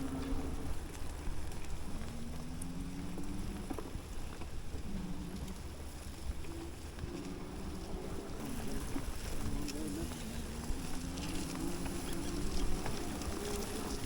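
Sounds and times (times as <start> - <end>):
faint motor whine: 0.0 - 14.0
tyres rumbling over ground: 0.0 - 14.0
wind buffeting microphone: 0.0 - 14.0.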